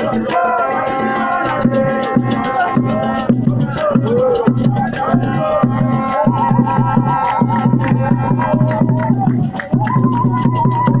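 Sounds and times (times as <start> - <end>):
fast drumming: 0.0 - 11.0.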